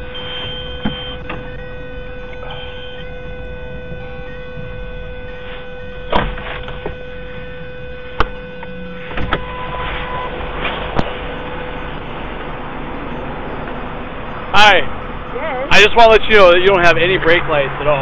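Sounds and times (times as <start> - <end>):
electrical hum and tone: 0.0 - 15.7
low vehicle rumble: 0.0 - 18.0.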